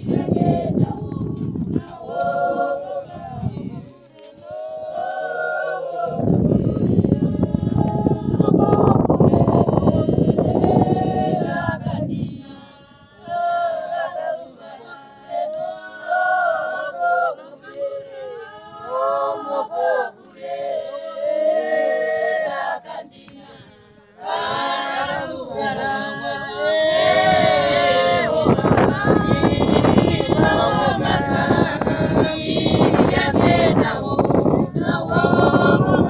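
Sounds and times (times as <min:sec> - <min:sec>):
group of voices singing: 0:00.0 - 0:36.0.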